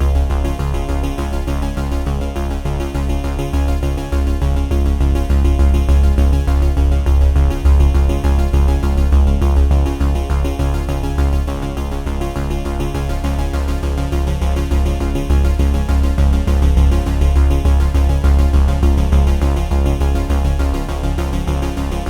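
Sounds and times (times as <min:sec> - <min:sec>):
electronic music with synth chords: 0:00.0 - 0:22.0
pulsing bass beat: 0:00.0 - 0:22.0.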